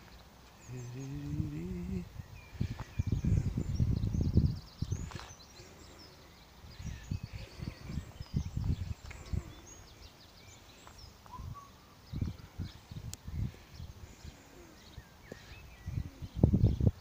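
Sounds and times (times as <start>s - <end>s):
small birds singing and chirping: 0.0s - 17.0s.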